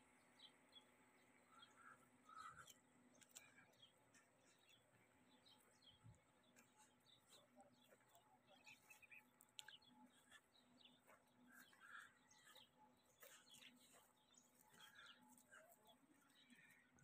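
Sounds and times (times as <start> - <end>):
faint bird chirps: 0.2 - 17.0.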